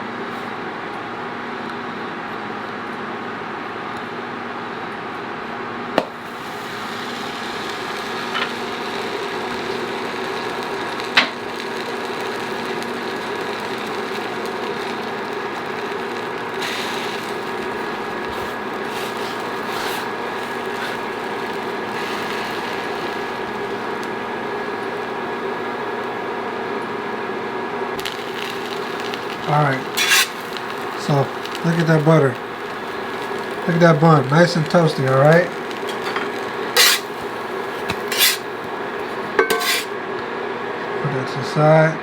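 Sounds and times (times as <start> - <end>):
kitchen machine hum: 6.0 - 40.0.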